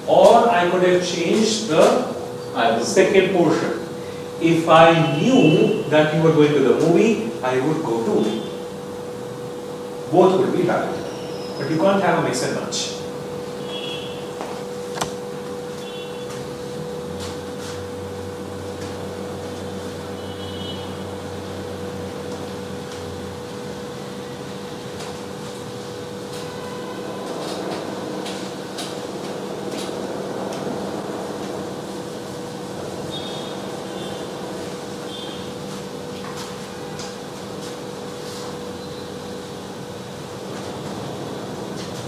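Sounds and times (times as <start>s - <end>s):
room hum and hiss: 0.0s - 42.0s.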